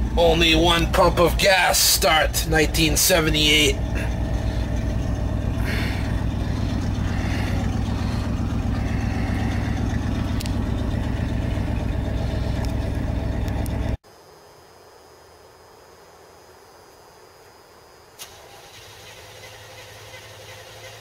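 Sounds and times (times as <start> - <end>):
engine idling in cab: 0.0 - 14.0, 18.2 - 21.0.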